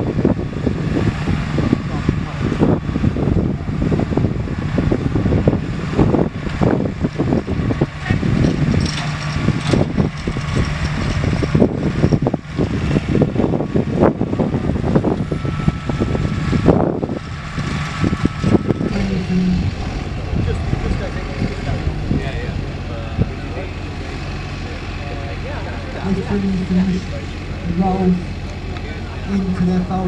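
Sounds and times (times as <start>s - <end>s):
tractor engine rumbling: 0.0s - 30.0s.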